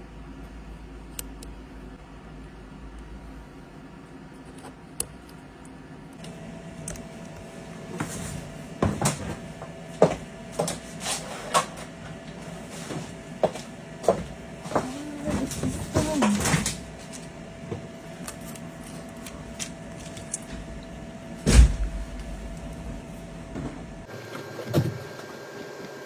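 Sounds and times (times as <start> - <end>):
faint steady hum: 0.0 - 24.1.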